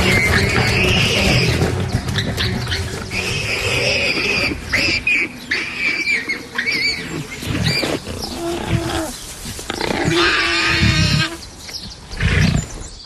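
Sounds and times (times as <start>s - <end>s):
lions snarling and growling: 0.0s - 11.5s, 12.1s - 12.9s.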